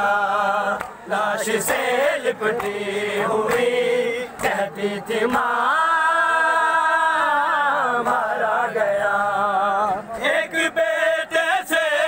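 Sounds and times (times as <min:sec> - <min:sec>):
men chanting a lament in unison: 0:00.0 - 0:12.0.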